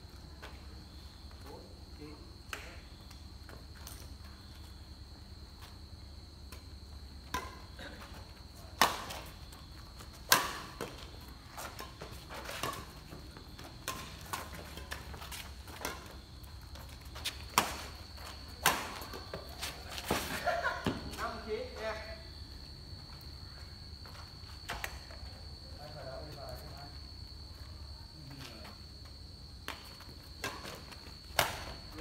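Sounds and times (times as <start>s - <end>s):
high insect trill: 0.0s - 32.0s.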